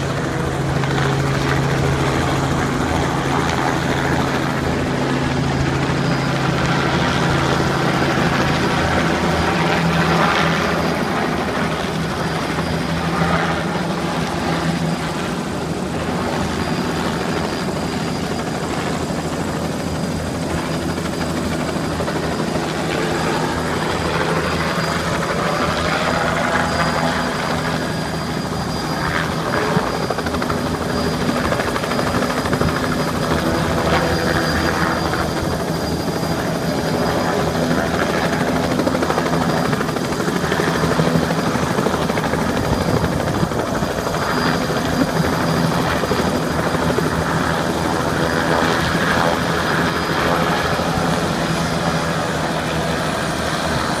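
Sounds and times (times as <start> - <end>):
helicopter engine and rotor drone: 0.0 - 54.0
helicopter high whine: 0.0 - 54.0.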